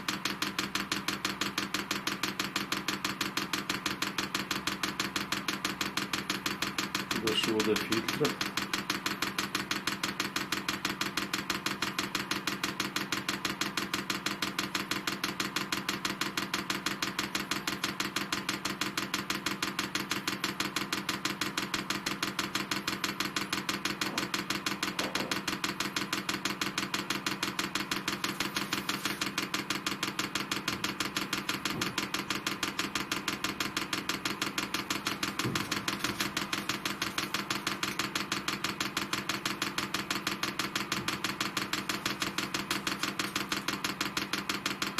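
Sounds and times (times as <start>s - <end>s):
fuel pump clicking: 0.0s - 44.9s.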